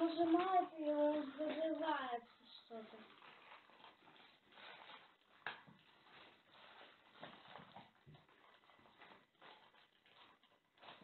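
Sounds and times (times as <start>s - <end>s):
plastic bags crinkling: 0.0s - 11.0s
sharp plastic crackle: 0.0s - 11.0s.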